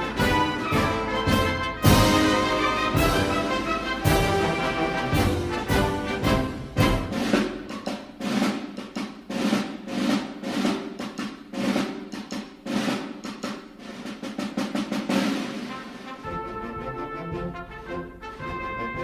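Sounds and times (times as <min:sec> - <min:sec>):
drum-led music with snare rolls: 0:00.0 - 0:19.0.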